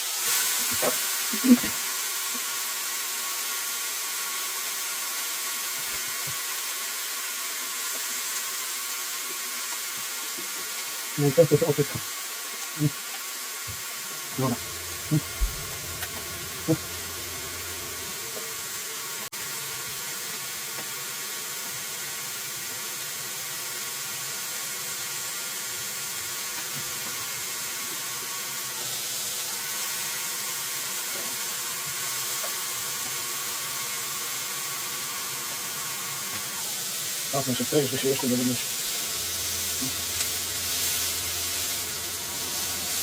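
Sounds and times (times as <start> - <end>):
hot oil sizzling: 0.0 - 43.0.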